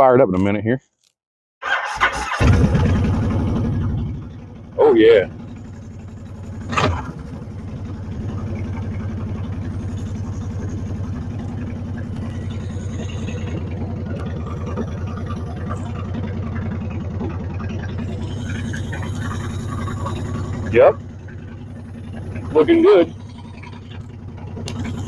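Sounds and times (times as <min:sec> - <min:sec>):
motorcycle engine idling: 0:02.3 - 0:25.0.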